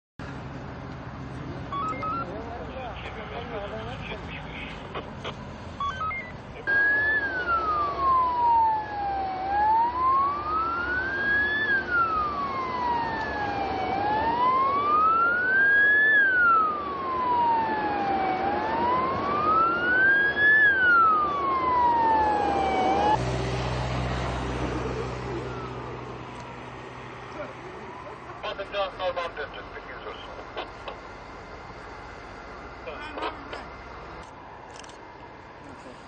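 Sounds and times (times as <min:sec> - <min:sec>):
low vehicle hum: 0:00.2 - 0:36.0
emergency vehicle siren wailing: 0:01.7 - 0:02.6, 0:05.8 - 0:35.8.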